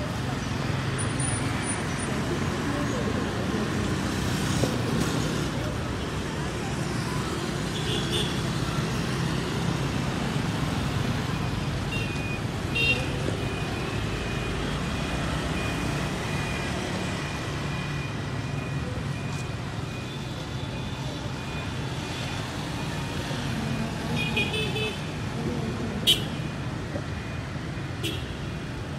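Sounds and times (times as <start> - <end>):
traffic engines and tyres rumbling: 0.0 - 28.9.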